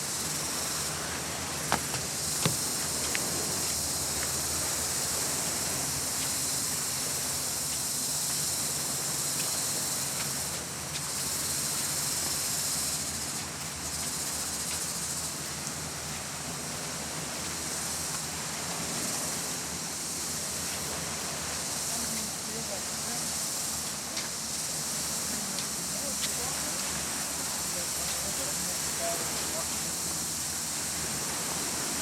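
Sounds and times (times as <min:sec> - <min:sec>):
insect chorus buzzing: 0:00.0 - 0:32.0.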